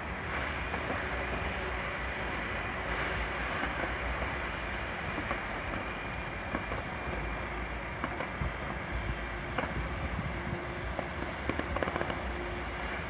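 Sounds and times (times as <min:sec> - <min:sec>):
distant fireworks bangs and crackles: 0:00.0 - 0:13.0
steady low rumble: 0:00.0 - 0:13.0.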